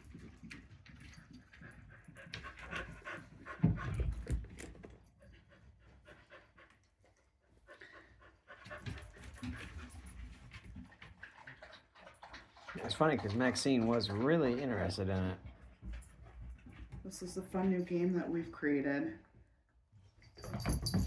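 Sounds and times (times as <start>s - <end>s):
dogs panting: 0.0s - 17.7s.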